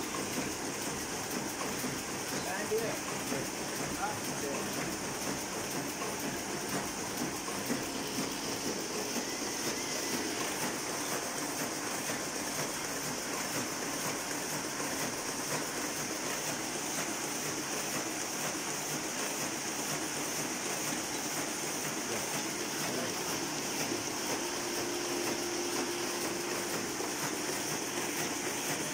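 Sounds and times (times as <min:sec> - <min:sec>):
printing press hiss and whir: 0:00.0 - 0:28.9.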